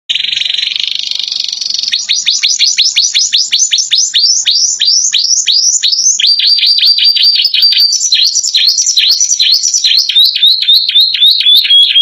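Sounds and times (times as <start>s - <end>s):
canary singing trills: 0.1s - 12.0s.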